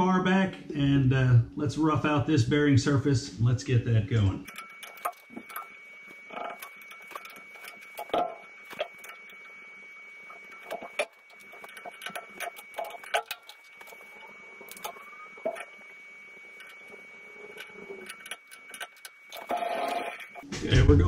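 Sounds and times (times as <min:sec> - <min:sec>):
lathe steady high whine: 0:01.8 - 0:20.7.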